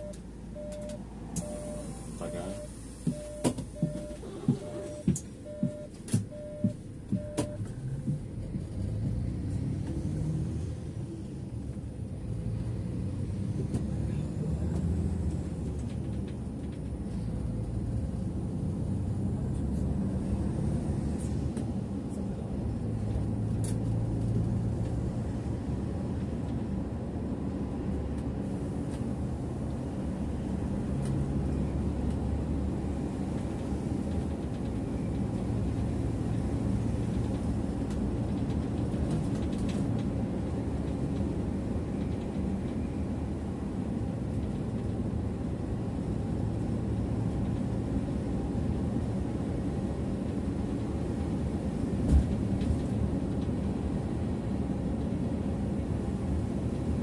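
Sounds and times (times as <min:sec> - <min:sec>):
bus engine and tyre drone: 0:00.0 - 0:57.0.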